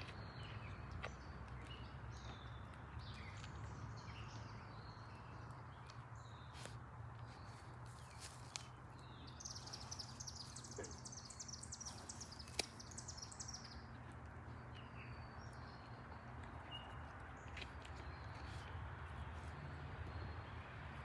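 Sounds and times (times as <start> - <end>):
small bird singing: 0.0 - 18.6.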